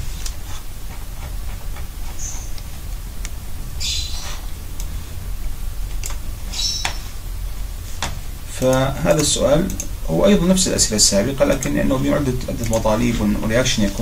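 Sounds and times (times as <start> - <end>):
high scratching sound: 0.0 - 14.0
low background hum: 0.0 - 14.0.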